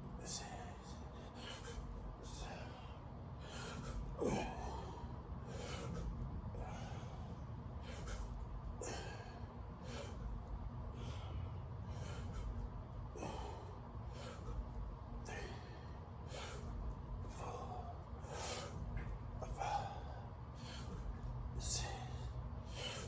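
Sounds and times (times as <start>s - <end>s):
person breathing hard: 0.2s - 23.0s.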